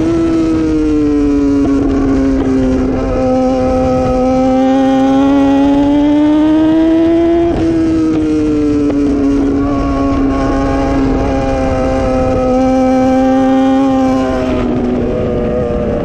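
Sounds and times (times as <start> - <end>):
motorcycle engine at high revs: 0.0 - 16.0
wind rush: 0.0 - 16.0.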